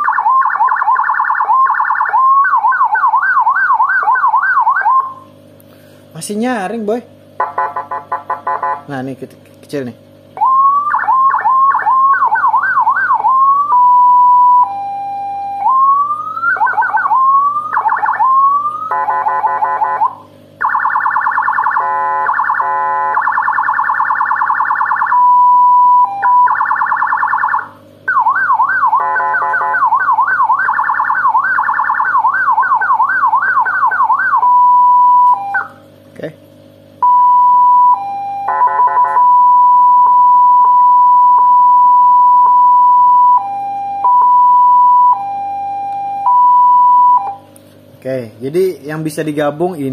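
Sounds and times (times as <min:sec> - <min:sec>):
electronic siren switching tones: 0:00.0 - 0:05.5, 0:07.4 - 0:09.0, 0:10.4 - 0:36.0, 0:36.6 - 0:47.8.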